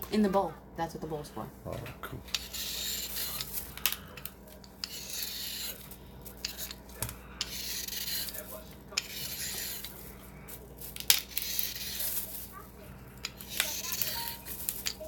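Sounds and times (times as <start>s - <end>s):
vegetable peeling scrapes: 2.2s - 14.8s.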